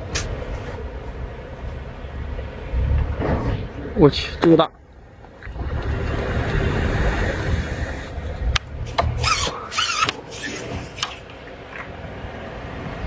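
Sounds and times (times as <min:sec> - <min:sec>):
low rumbling handling noise: 0:00.0 - 0:13.0.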